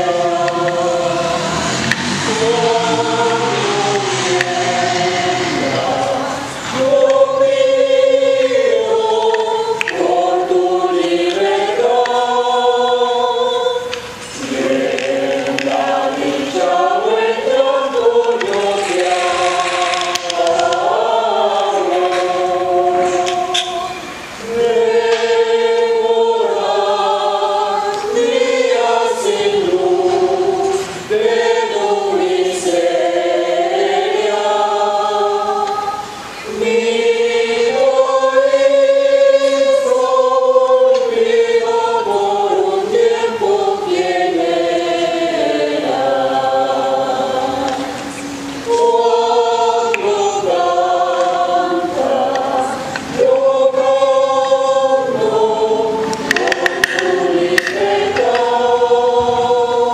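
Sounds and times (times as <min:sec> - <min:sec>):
mixed choir singing a carol: 0:00.0 - 0:59.9.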